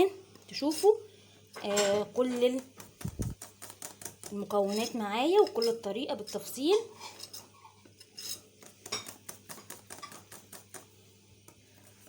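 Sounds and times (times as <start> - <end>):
utensil stirring batter in bowl: 1.6 - 5.9, 6.5 - 12.0.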